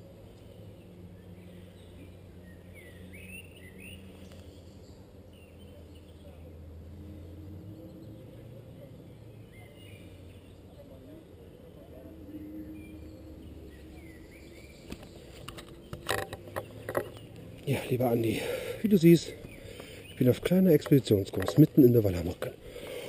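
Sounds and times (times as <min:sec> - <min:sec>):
birds chirping: 0:00.0 - 0:06.6, 0:07.2 - 0:23.0.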